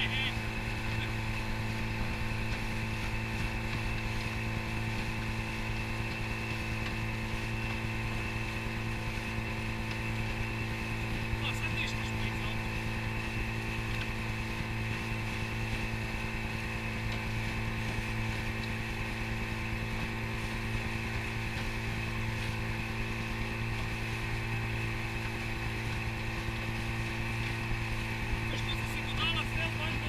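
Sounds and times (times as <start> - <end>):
outboard motor droning: 0.0 - 30.0
water rushing along hull: 0.0 - 30.0.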